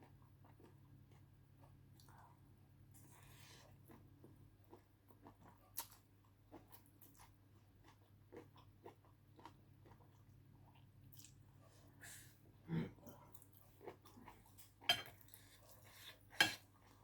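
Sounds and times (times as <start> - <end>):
person chewing noodles: 0.0 - 11.6, 13.0 - 17.0.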